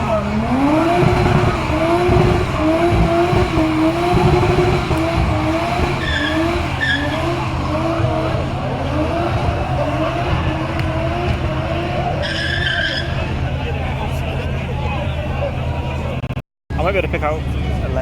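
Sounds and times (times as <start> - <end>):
car engine revving: 0.0 - 18.0
tyres spinning on tarmac: 0.0 - 18.0.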